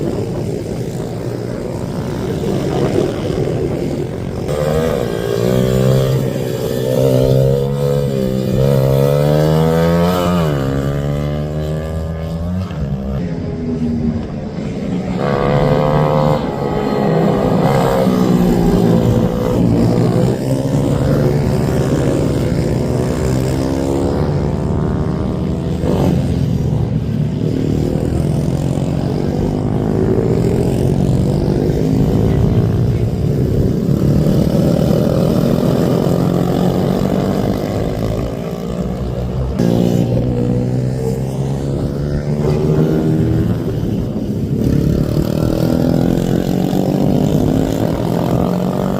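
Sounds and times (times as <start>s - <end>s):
racing minibike engines revving: 0.0s - 48.9s.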